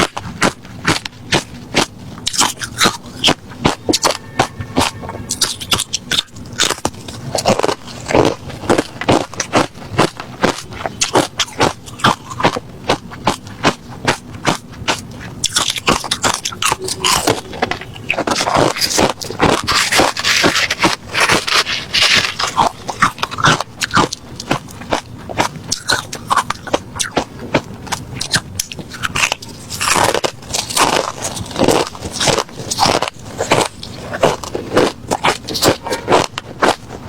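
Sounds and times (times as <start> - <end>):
person chewing crushed ice: 0.0 - 37.0.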